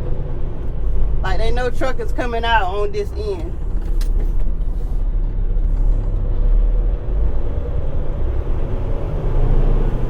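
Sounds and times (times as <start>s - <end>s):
road noise: 0.0s - 10.0s
truck diesel engine rumble: 0.0s - 10.0s.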